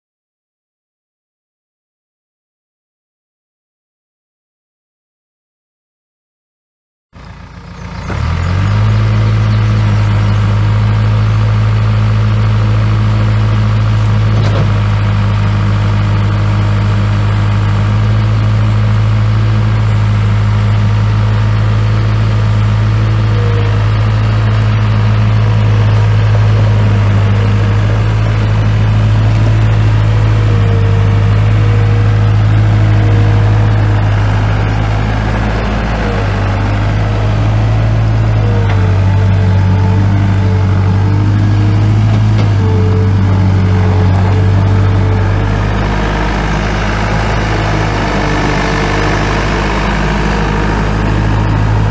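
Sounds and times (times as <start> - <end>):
diesel engine running: 7.2 - 51.9.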